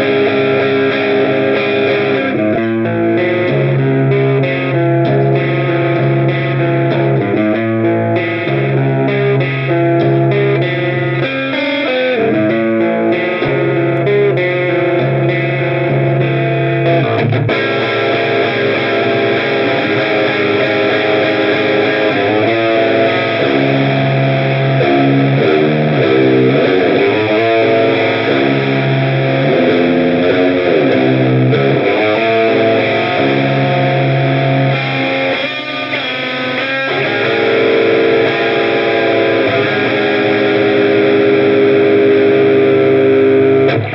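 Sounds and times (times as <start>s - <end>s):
overdriven electric guitar: 0.0s - 43.9s.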